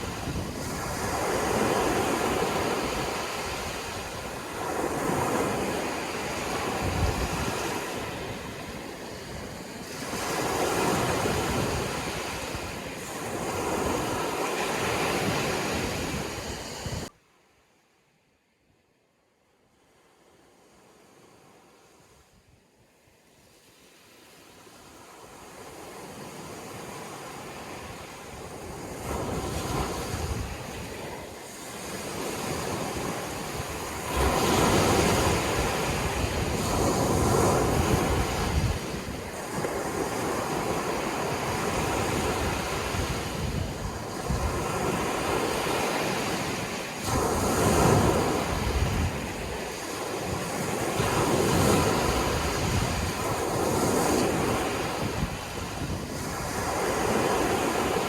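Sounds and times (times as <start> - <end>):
sea waves washing onto shore: 0.0 - 17.1, 23.5 - 58.0.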